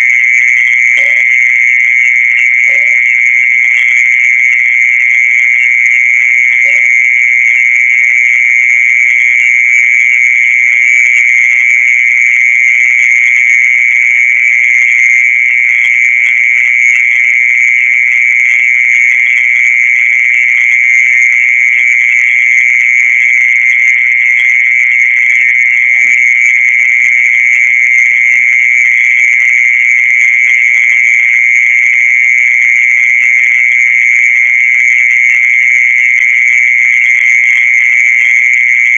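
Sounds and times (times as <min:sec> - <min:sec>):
mole cricket high-pitched trill: 0:00.0 - 0:38.9.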